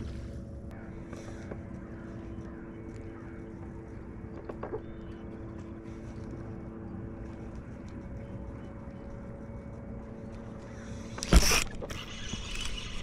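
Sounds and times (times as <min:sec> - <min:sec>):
electric trolling motor humming: 0:00.0 - 0:13.0.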